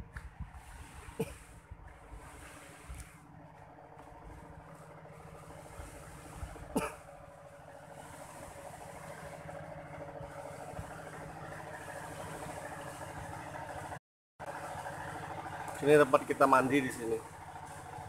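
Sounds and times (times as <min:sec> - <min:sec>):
motor humming: 0:01.8 - 0:18.0.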